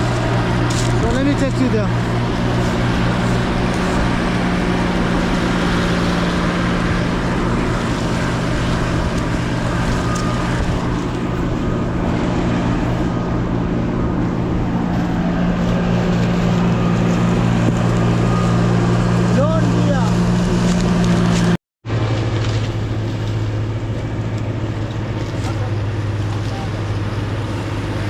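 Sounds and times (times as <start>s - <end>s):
farm machinery engine running: 0.0s - 28.0s.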